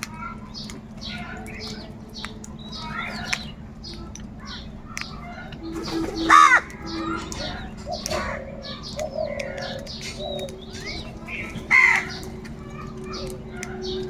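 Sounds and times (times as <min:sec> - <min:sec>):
crows cawing: 0:00.0 - 0:14.0
steady low hum: 0:00.0 - 0:14.0.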